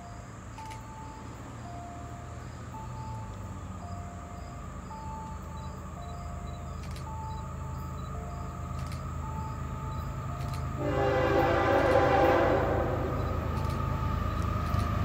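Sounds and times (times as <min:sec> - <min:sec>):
two-note high-low tone: 0:00.0 - 0:14.5
distant diesel train rumble: 0:00.0 - 0:15.0.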